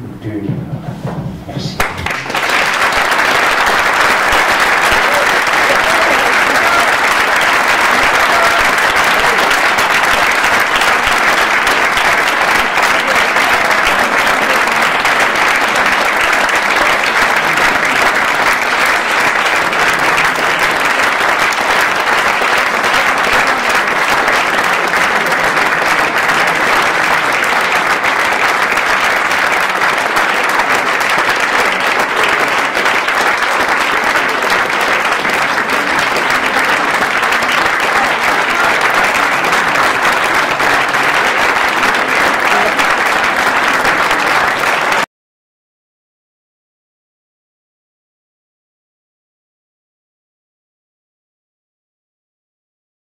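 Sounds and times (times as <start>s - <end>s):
audience applauding: 1.8s - 45.1s.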